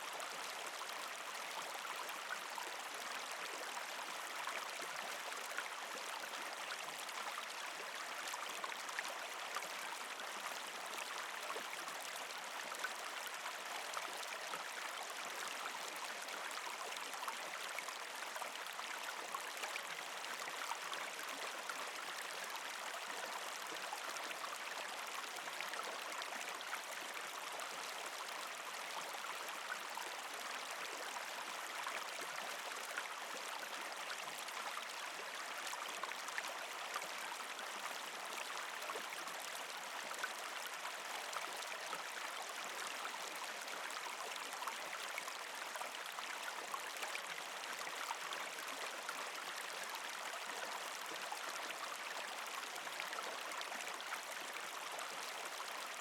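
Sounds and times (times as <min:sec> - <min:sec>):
creek water rushing and gurgling: 0:00.0 - 0:56.0.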